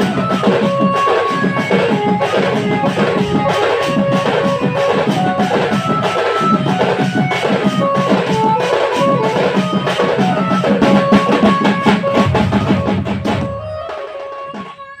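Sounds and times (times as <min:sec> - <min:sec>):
fast dense drumming: 0:00.0 - 0:13.9
held-note melody line: 0:00.0 - 0:14.2.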